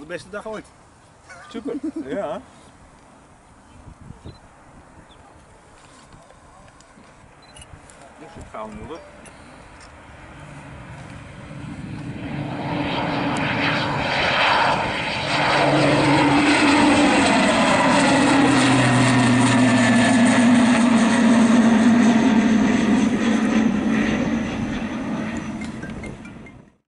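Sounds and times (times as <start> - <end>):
turboprop airliner passing: 0.0 - 26.8.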